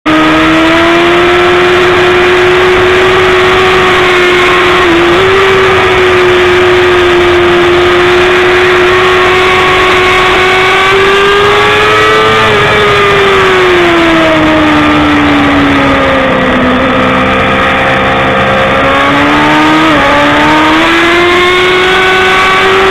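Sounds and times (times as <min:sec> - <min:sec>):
motorcycle engine at high revs: 0:00.0 - 0:22.9.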